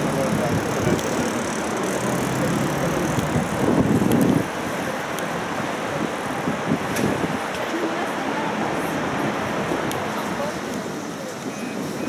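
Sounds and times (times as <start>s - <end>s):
tram rumble and hiss: 0.0s - 12.0s.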